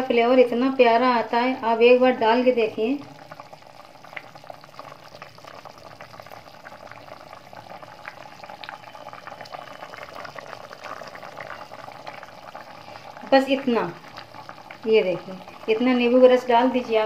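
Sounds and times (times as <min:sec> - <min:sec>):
curry bubbles popping: 0:01.9 - 0:17.0.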